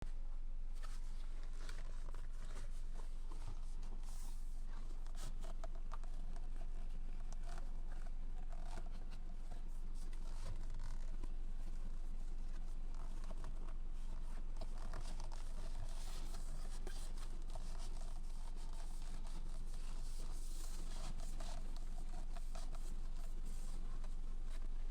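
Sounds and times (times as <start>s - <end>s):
hands scratching steering wheel cover: 0.8s - 24.8s.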